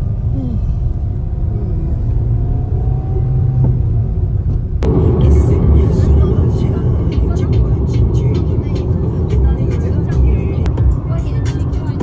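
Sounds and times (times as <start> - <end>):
road and wind noise: 0.0 - 12.0
tyre and engine rumble: 0.0 - 12.0.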